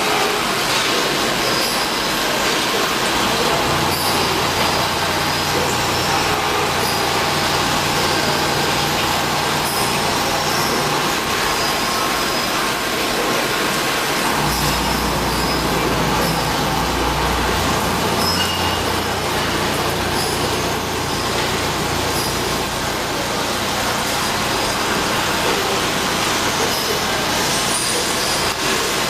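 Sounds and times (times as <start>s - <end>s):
mechanical running noise: 0.0s - 29.0s.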